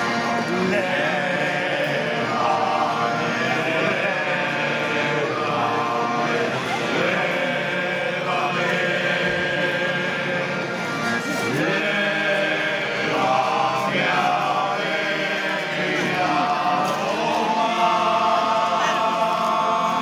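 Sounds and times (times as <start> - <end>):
men singing together: 0.0 - 20.0.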